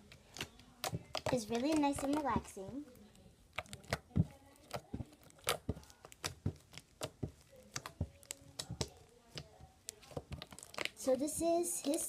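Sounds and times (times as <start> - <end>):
slime squishing: 0.0 - 12.0.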